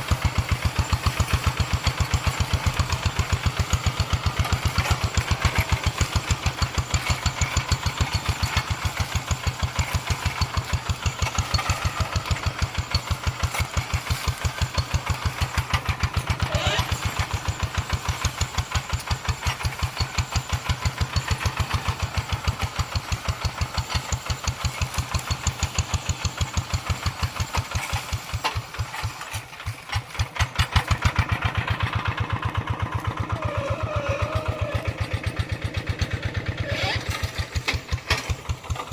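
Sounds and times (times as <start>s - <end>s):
tractor engine thumping: 0.0s - 38.9s.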